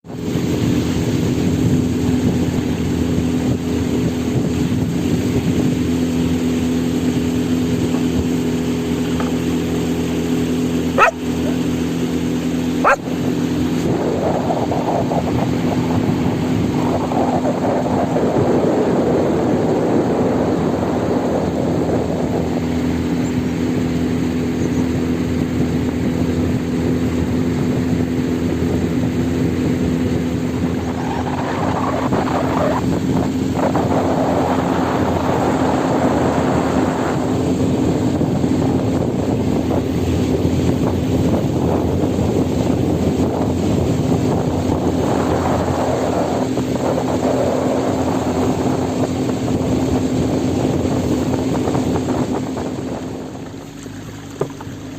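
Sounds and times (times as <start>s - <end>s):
motor running steadily: 0.0s - 31.0s, 32.0s - 54.9s.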